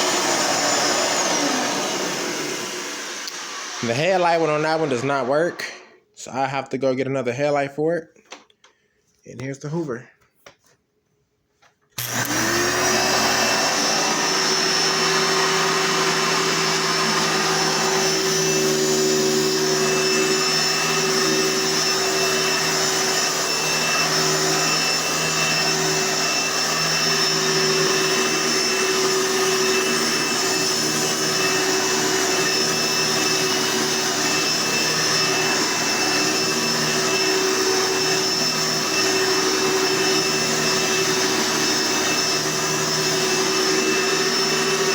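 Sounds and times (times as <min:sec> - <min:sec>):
vacuum cleaner switch: 0:00.0 - 0:03.8, 0:12.0 - 0:44.9
vacuum cleaner whining: 0:00.0 - 0:07.2, 0:11.8 - 0:44.9.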